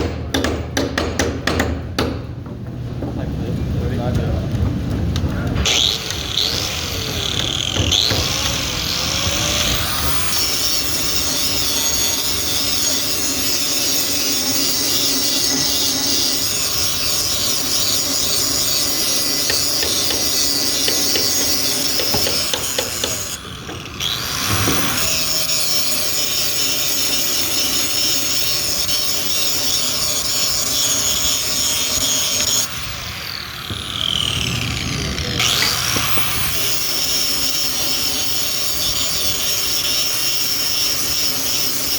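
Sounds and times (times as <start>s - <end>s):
power grinder grinding metal: 5.6s - 41.9s.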